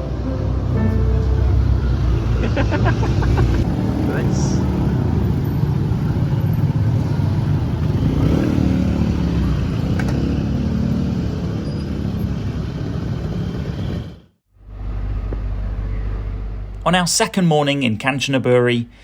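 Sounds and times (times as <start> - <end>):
road vehicle engines: 0.0 - 17.2.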